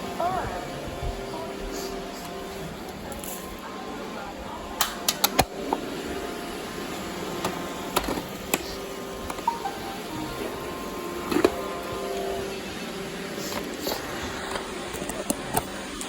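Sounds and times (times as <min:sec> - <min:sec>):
robot vacuum humming: 0:00.0 - 0:16.0.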